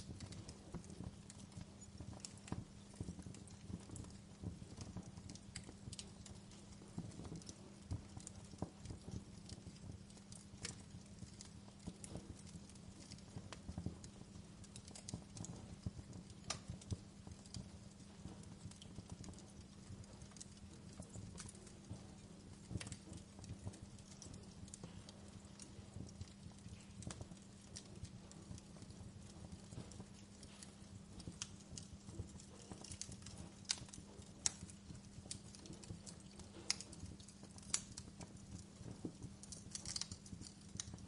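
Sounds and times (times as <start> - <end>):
soft steady hiss: 0.0 - 41.0
wood fire crackling: 0.0 - 41.0.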